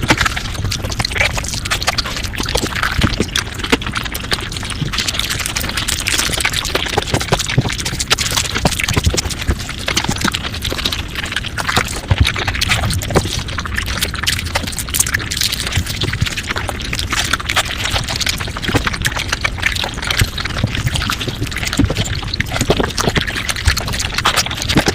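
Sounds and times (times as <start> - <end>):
rapid chewing and mouth clicks: 0.0 - 24.9.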